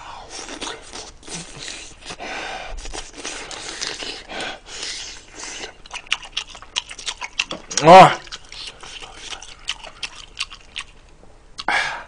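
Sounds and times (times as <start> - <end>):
man chewing close to microphone: 0.2 - 11.7.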